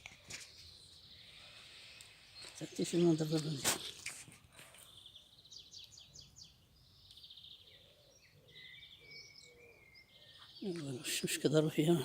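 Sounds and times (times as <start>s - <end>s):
faint birdsong trills and chirps: 0.0s - 12.0s.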